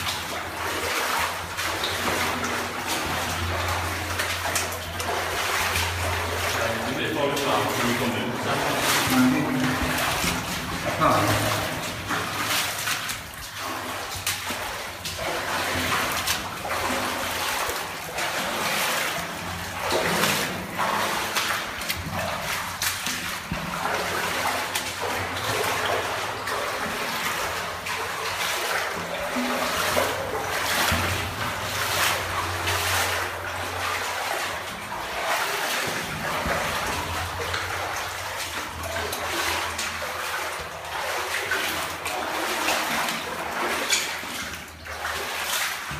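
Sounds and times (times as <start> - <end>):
footsteps splashing through water: 0.0 - 45.9
water noise: 0.0 - 45.9.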